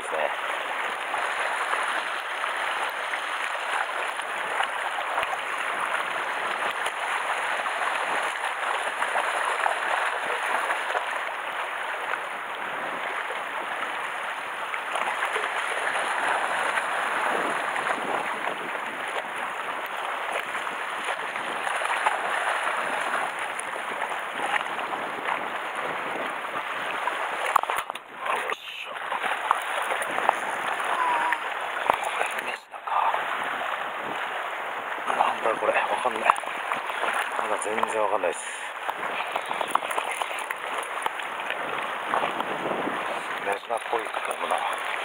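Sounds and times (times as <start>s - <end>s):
waves lapping on rocky shore: 0.0s - 45.0s.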